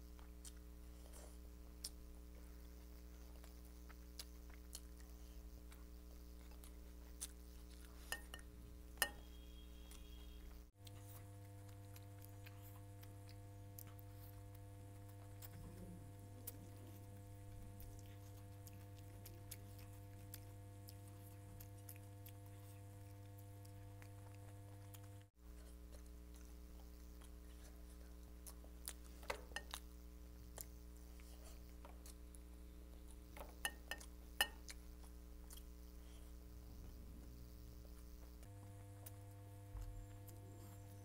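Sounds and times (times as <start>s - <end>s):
chewing and mouth sounds: 0.0s - 9.2s, 10.8s - 41.0s
steady low hum: 0.0s - 41.0s.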